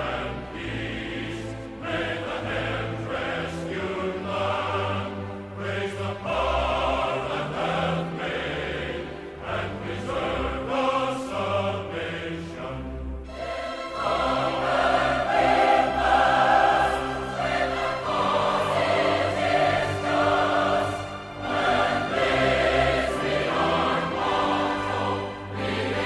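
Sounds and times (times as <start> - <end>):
choir singing long held notes: 0.0 - 26.0.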